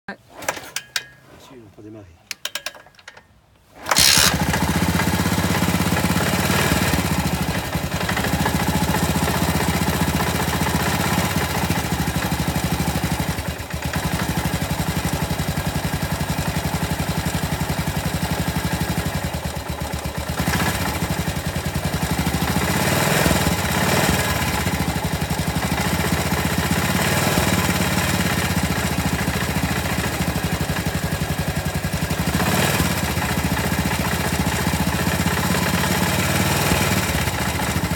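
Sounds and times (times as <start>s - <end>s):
motorcycle engine idling: 4.0s - 37.9s.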